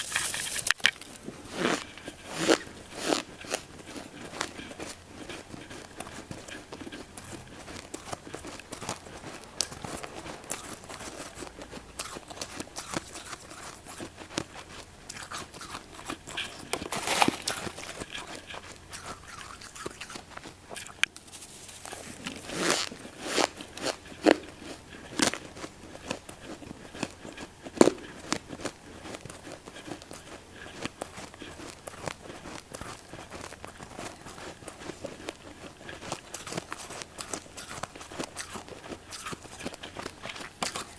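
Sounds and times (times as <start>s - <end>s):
chewing crunchy frost: 0.0s - 40.9s.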